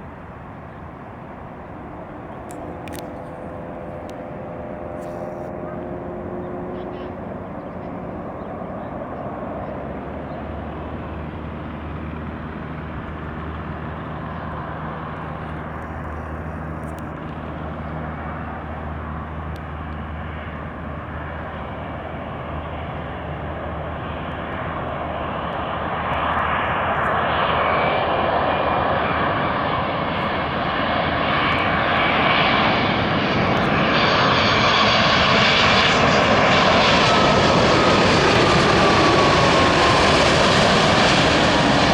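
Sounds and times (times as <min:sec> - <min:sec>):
jet engines roaring: 0:00.0 - 0:41.9
thin engine whine: 0:00.0 - 0:41.9.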